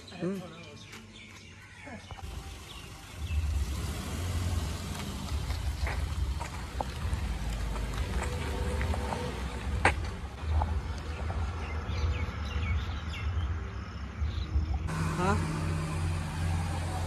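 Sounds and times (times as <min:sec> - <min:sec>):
birds chirping: 0:00.0 - 0:17.0
low street rumble: 0:00.0 - 0:17.0.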